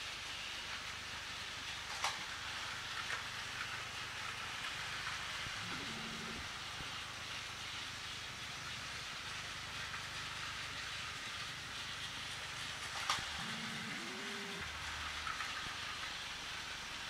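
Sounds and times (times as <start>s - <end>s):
toy train motor whir and rattle: 0.0s - 17.0s.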